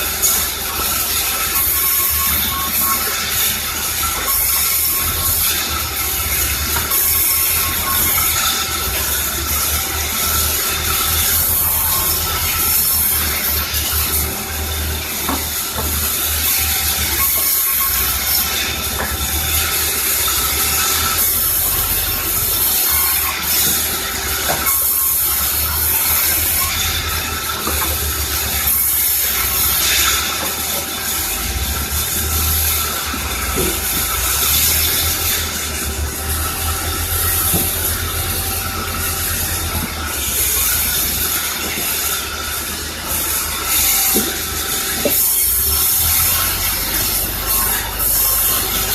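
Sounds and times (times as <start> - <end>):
machinery motor drone: 0.0 - 48.9
saw cutting wood: 0.0 - 48.9.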